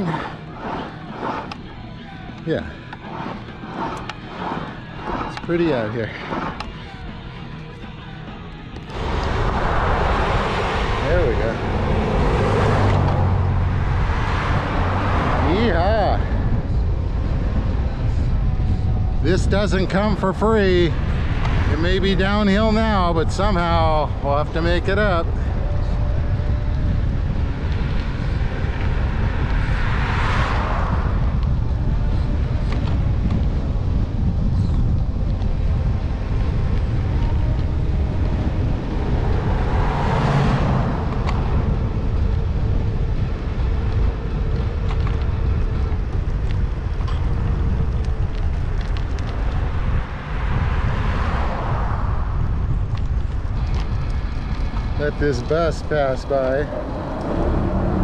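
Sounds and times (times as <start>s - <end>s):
vehicles passing: 0.0s - 58.0s
wind buffeting microphone: 8.8s - 58.0s.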